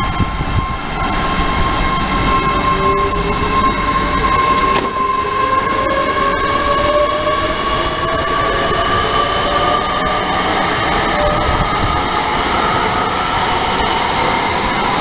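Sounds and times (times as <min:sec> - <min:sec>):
train accelerating whine: 0:00.0 - 0:15.0.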